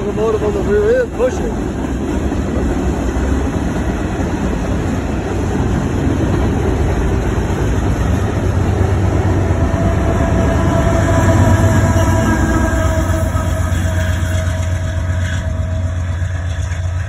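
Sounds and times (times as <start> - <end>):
diesel locomotive: 0.0 - 17.0
freight train cars rumbling: 0.0 - 17.0
steady whine: 2.5 - 17.0.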